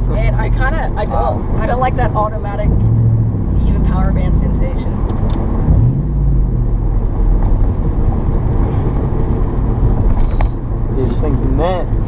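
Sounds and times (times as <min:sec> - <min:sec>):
loud deep car exhaust drone: 0:00.0 - 0:12.0.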